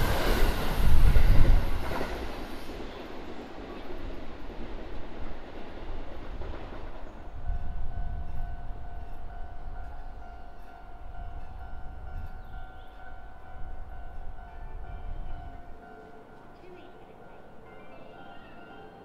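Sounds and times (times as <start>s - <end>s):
train rolling noise: 0.0s - 19.0s.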